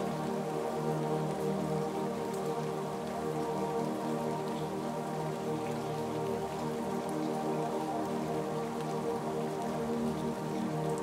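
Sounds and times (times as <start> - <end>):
ambient music with held chords: 0.0 - 11.0.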